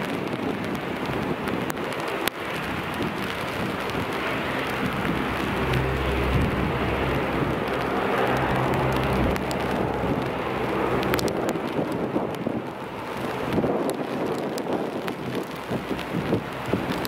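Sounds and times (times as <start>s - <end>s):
steady rushing noise: 0.0s - 17.0s
turboprop engines droning: 0.6s - 17.0s.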